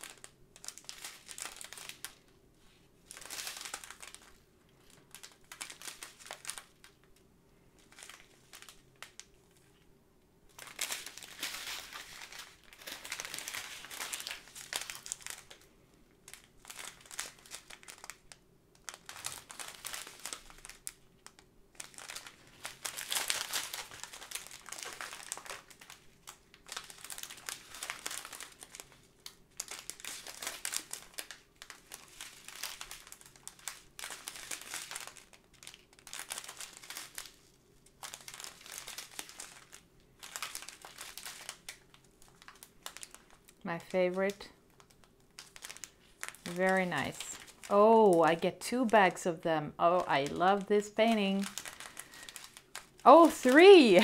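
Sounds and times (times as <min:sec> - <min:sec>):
plastic bags crinkling: 0:00.0 - 0:09.8, 0:10.5 - 0:54.0.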